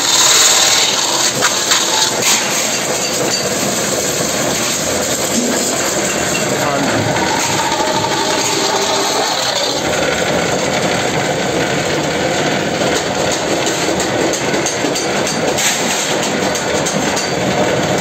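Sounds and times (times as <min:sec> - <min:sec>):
lathe running: 0:00.0 - 0:15.6.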